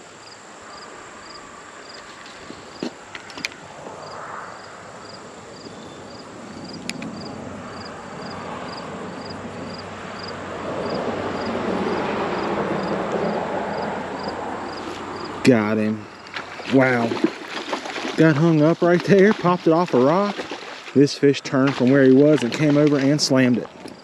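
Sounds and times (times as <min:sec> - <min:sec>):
steady outdoor rush: 0:00.0 - 0:24.0.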